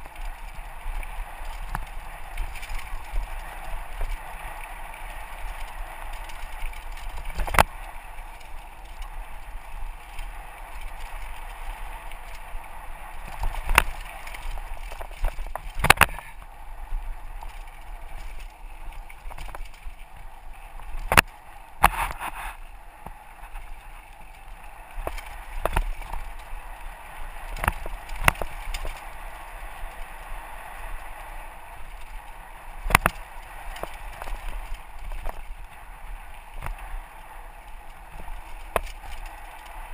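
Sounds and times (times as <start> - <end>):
bike knocking on bumps: 0.0 - 30.2, 31.9 - 39.9
bike tyres and frame rattling: 0.0 - 39.9.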